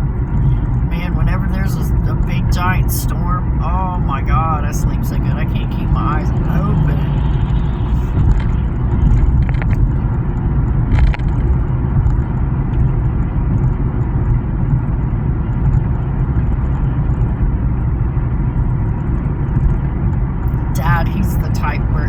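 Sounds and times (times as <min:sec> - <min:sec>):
car interior road and engine rumble: 0:00.0 - 0:22.0.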